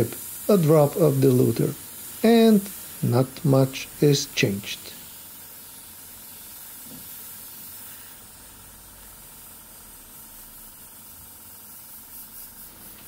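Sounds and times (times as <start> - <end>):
airbrush hissing: 0.0 - 13.0.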